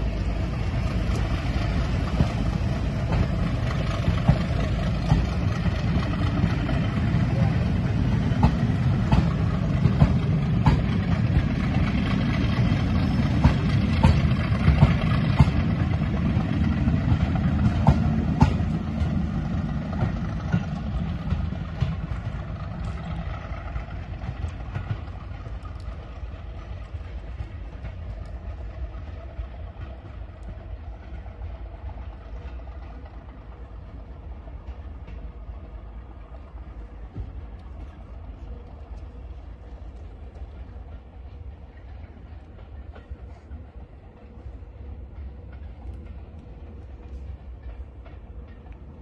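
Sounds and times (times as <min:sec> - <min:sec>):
diesel locomotive rumbling: 0:00.0 - 0:49.0.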